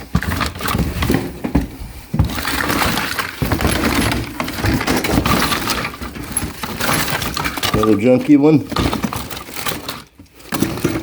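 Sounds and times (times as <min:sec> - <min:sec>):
electrical parts clattering: 0:00.0 - 0:11.0.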